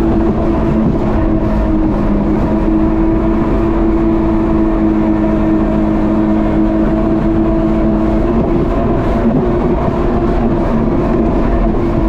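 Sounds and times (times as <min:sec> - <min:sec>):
jet ski engine running: 0:00.0 - 0:12.0
rush of wind and water: 0:00.0 - 0:12.0.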